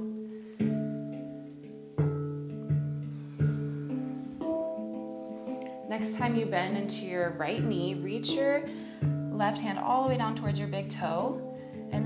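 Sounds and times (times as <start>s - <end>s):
plucked string instrumental music: 0.0s - 12.0s.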